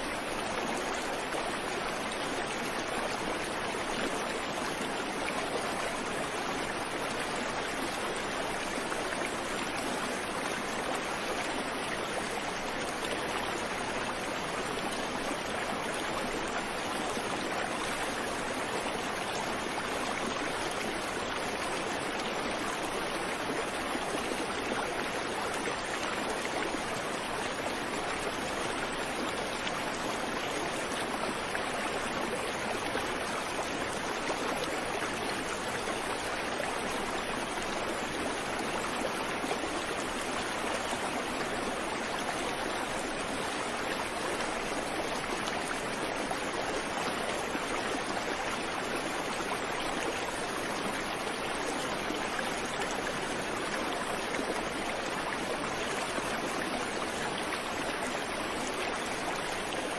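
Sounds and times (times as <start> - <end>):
creek water flowing over rocks: 0.0 - 59.9.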